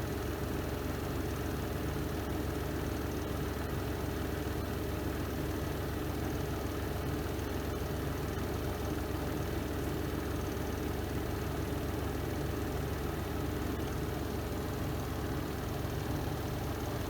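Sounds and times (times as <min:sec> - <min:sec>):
washing machine spinning hum: 0:00.0 - 0:17.0.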